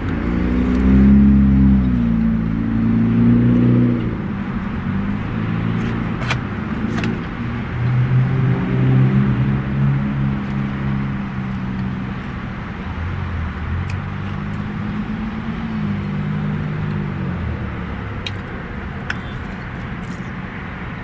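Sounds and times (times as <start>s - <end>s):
car engine hum from inside cabin: 0.0s - 21.0s.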